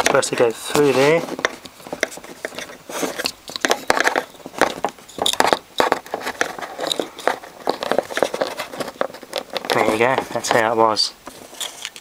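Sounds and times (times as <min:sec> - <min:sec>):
wire clicking and scraping: 0:00.0 - 0:12.0.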